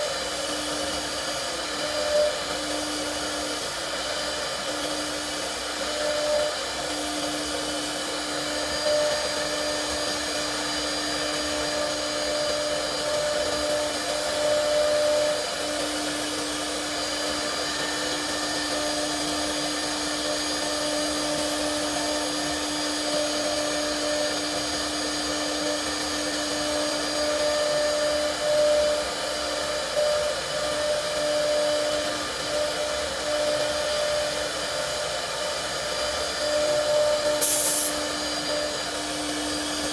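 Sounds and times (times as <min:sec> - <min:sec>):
motor and cutting noise: 0:00.0 - 0:39.9
router spindle whining: 0:00.0 - 0:39.9.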